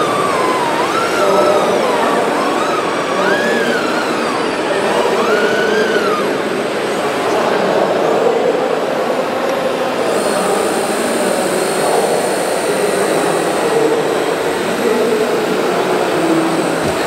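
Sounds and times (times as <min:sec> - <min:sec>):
crowded hall din: 0:00.0 - 0:17.0
hydraulic pump whirring: 0:00.0 - 0:17.0.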